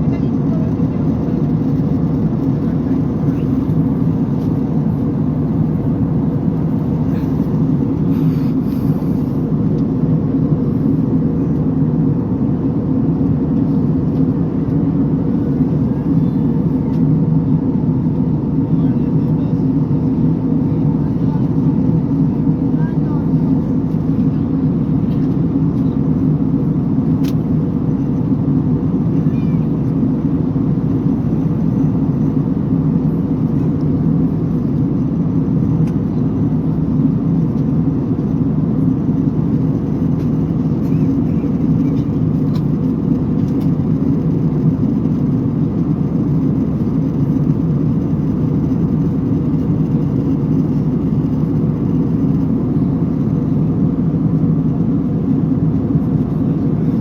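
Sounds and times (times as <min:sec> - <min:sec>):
airliner cabin hum: 0:00.0 - 0:57.0.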